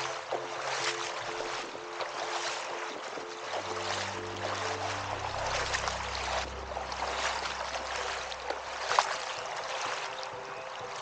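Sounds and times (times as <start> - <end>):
paddle splashing in water: 0.0 - 11.0
water trickling: 0.0 - 11.0.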